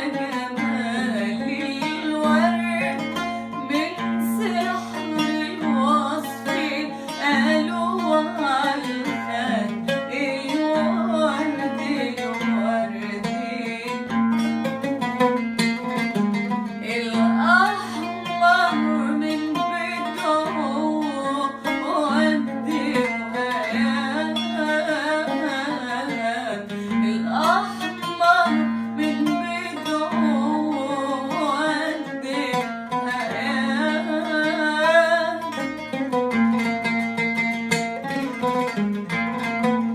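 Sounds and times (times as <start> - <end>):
plucked string melody: 0.0 - 39.9.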